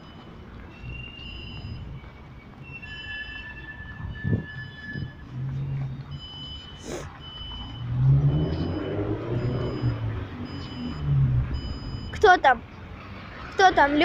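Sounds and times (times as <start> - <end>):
motor traffic rumble: 0.0 - 14.0.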